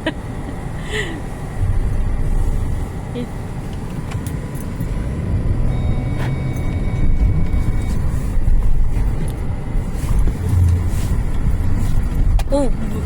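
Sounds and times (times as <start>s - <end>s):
car rumbling through snow: 0.0s - 13.0s.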